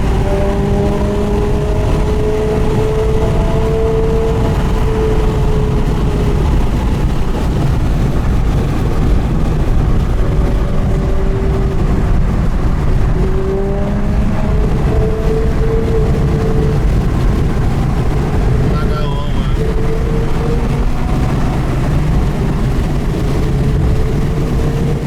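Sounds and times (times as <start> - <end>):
sports car engine running: 0.0 - 25.0.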